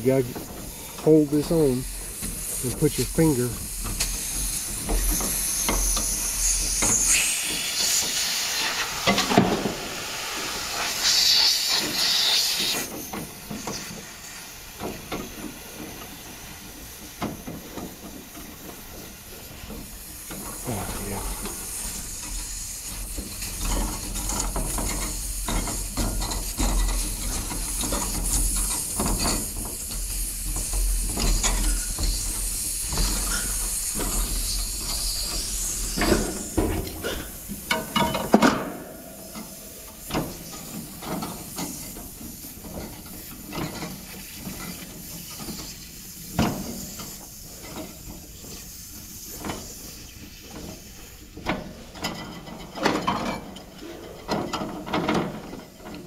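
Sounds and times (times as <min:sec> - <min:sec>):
refrigerant hissing: 0:00.0 - 0:56.0.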